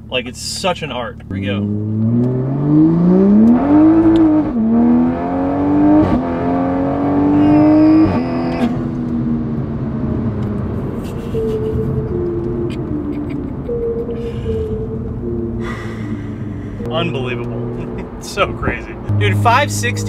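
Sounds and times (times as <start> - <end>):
car engine revving hard: 1.5 - 11.8, 13.6 - 20.0.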